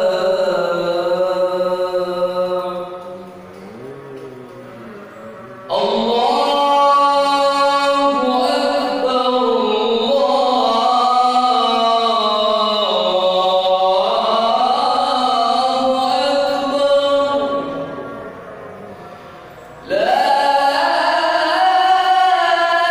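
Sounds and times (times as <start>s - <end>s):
man singing call to prayer: 0.0s - 22.9s.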